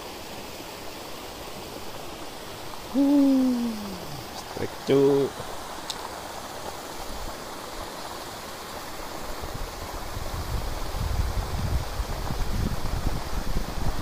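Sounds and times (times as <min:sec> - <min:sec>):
water rushing over a weir: 0:00.0 - 0:14.0.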